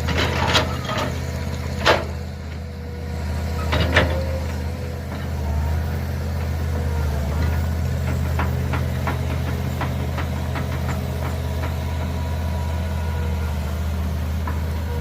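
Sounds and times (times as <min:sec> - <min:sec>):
mini excavator engine digging: 0:00.0 - 0:15.0.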